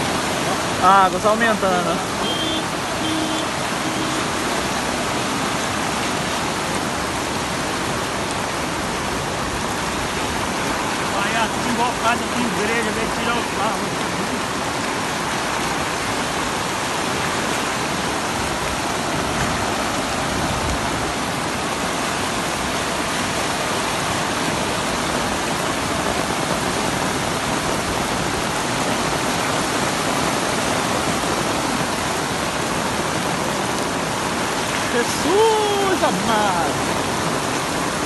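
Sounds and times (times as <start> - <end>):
floodwater rushing: 0.0 - 38.0
heavy rain falling: 0.0 - 38.0.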